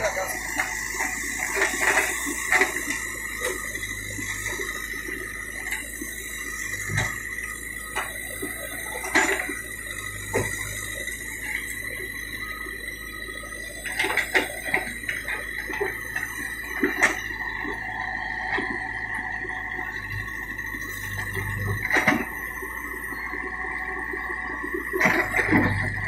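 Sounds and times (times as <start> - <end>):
backhoe machine noise with whine: 0.0 - 26.0.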